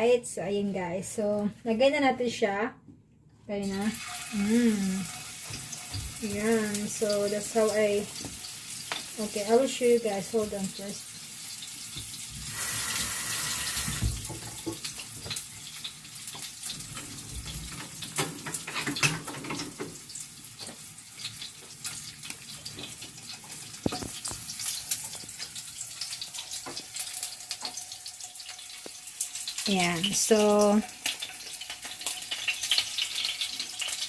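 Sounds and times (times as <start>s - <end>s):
chicken frying in oil: 3.7s - 34.0s
oil popping and crackling: 3.8s - 34.0s.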